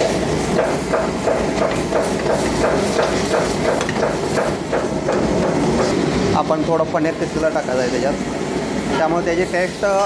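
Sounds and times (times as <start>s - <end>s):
low roar of kitchen noise: 0.0s - 10.0s.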